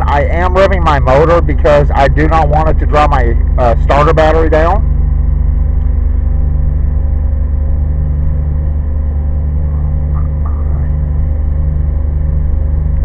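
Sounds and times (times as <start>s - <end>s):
van engine low hum: 0.0s - 13.0s.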